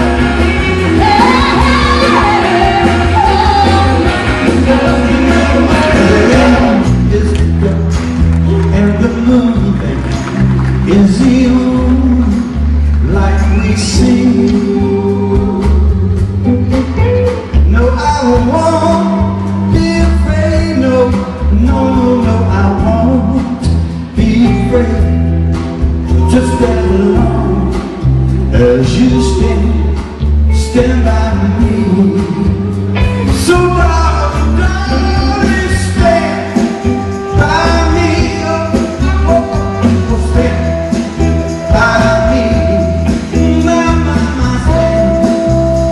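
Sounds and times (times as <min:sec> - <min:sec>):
band playing with singer: 0:00.0 - 0:45.9
steady bass line: 0:00.0 - 0:45.9.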